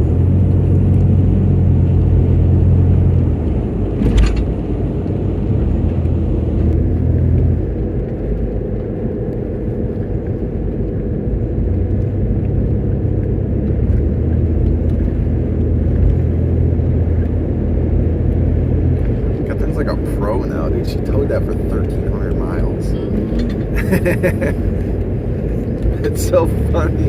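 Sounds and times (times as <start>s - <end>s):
low hum: 0.0s - 27.0s
road rumble: 0.0s - 27.0s
vehicle engine drone: 0.0s - 27.0s.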